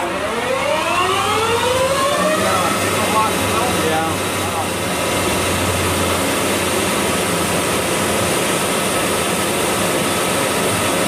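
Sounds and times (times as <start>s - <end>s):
lathe whirring: 0.0s - 11.0s.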